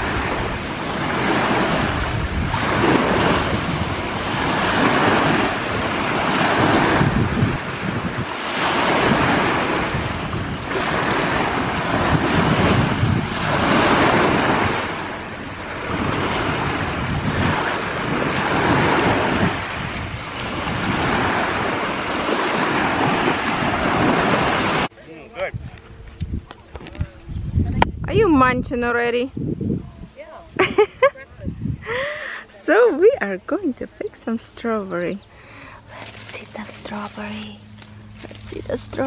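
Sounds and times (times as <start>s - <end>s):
waves washing ashore: 0.0s - 25.4s, 30.1s - 39.0s
wind buffeting microphone: 0.0s - 39.0s.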